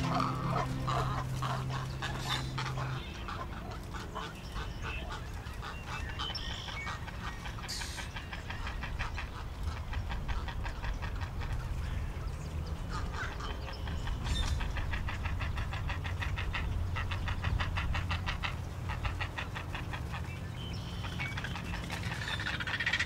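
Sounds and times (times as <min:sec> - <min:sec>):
waterbirds calling harshly: 0:00.0 - 0:23.0.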